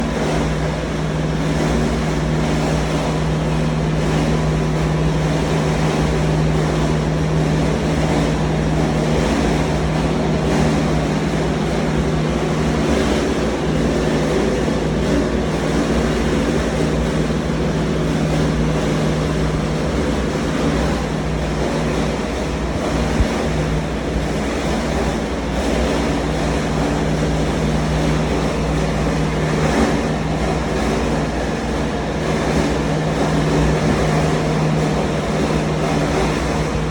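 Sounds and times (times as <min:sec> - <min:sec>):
motor humming: 0:00.0 - 0:36.9.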